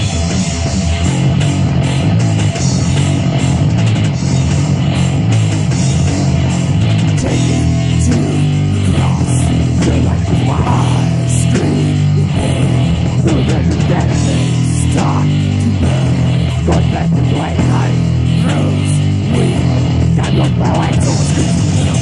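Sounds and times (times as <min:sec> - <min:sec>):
thrash metal instrumental: 0:00.0 - 0:22.0.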